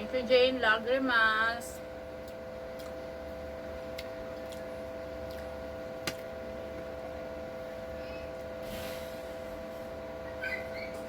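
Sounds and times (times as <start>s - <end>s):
steady two-pitch humming tone: 0.0s - 11.0s.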